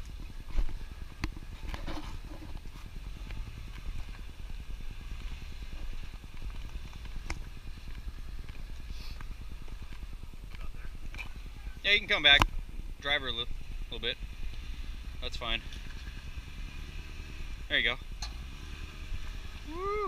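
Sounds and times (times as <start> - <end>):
engine rumbling at low revs: 0.0 - 20.0.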